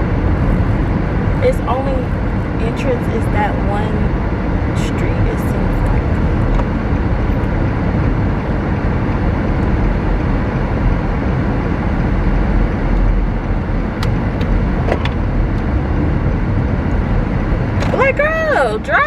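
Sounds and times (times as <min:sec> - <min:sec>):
car interior road rumble: 0:00.0 - 0:19.0.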